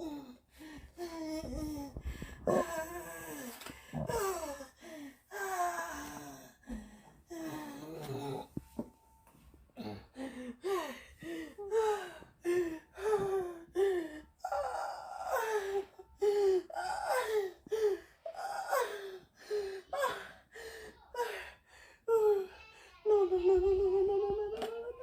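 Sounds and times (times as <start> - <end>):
woman moaning and gasping: 0.0 - 8.6, 9.8 - 25.0.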